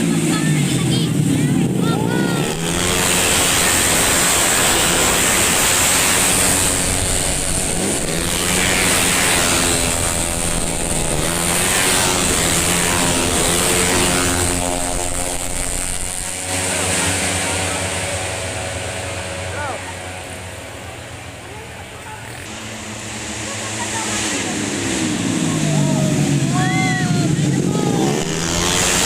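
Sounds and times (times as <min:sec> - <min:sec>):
scooter engines racing past: 0:00.0 - 0:29.0.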